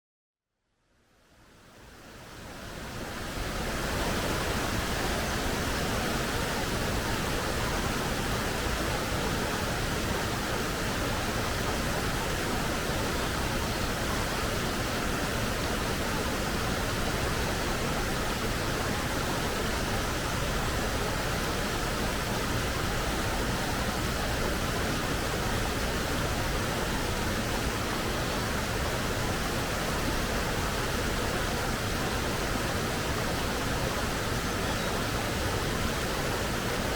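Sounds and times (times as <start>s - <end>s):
stream flowing over rocks: 2.6s - 36.9s.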